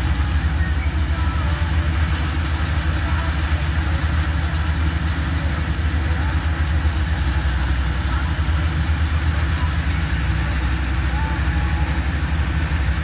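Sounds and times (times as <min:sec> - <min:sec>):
harvester diesel engine droning: 0:00.0 - 0:13.0.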